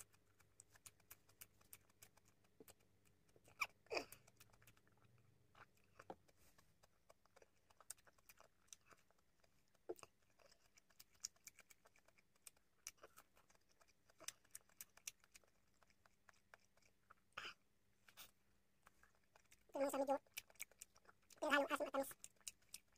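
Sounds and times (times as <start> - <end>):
chewing and swallowing mouth sounds: 0.0 - 22.9.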